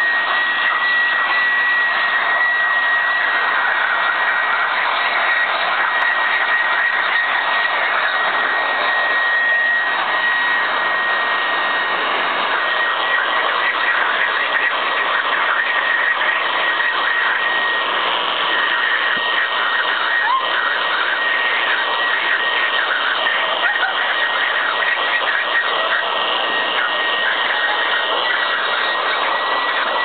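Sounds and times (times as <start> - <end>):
electric air pump running: 0.0 - 30.0.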